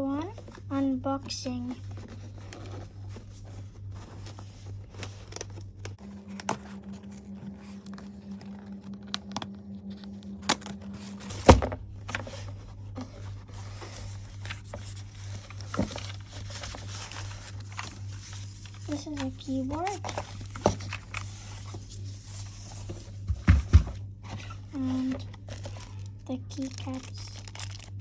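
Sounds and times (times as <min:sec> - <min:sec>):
cardboard and plastic packaging handled: 0:00.0 - 0:28.0.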